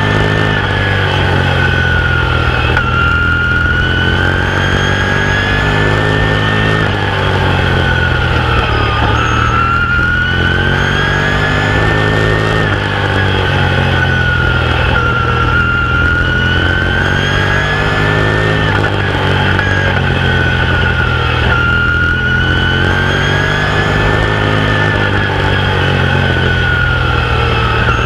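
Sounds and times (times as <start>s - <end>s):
high whine: 0.0s - 28.0s
race car engine at speed: 0.0s - 28.0s.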